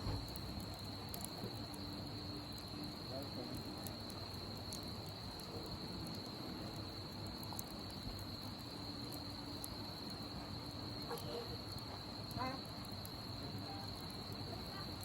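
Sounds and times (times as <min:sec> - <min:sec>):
campfire crackling and popping: 0:00.0 - 0:15.0
crickets trilling: 0:00.0 - 0:15.0.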